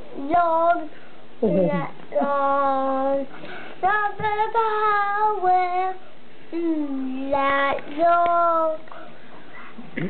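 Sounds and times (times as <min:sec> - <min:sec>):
boy singing slowly: 0:00.0 - 0:09.0.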